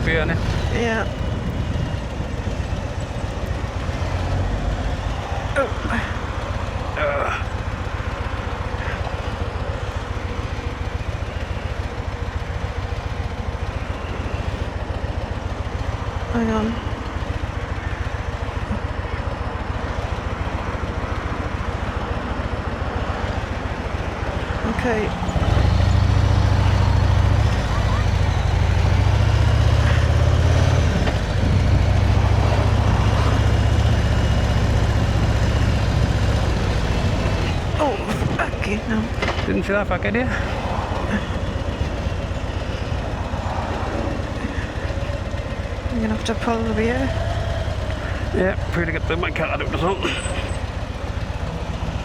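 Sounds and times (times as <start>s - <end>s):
motorcycle engine throbbing: 0.0s - 52.0s.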